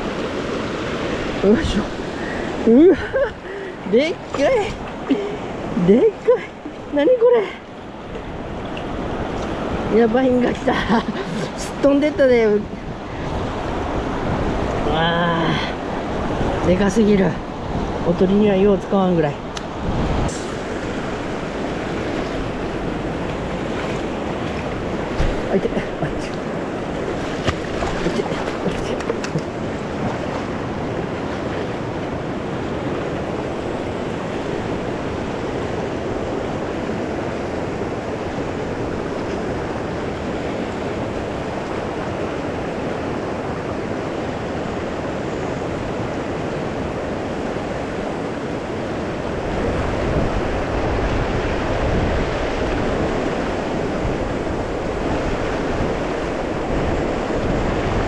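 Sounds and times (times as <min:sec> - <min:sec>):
river current rushing: 0:00.0 - 0:58.0
wind rumble on microphone: 0:00.0 - 0:58.0.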